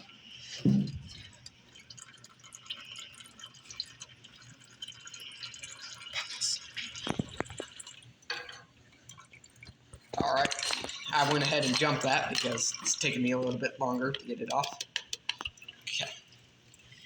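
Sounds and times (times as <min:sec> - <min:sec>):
oil dripping into a pan: 0:00.0 - 0:17.0.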